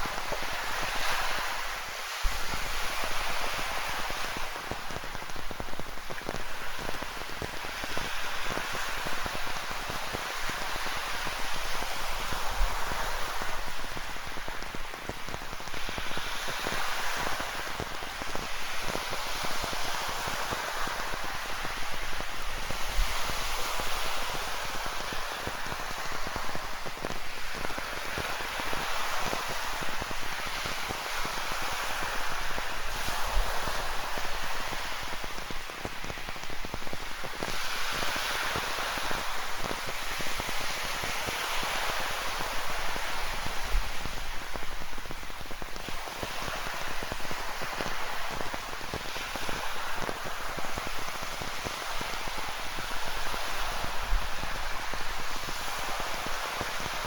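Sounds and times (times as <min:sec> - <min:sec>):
ocean surf: 0:00.0 - 0:57.0
rain pattering: 0:00.0 - 0:57.0.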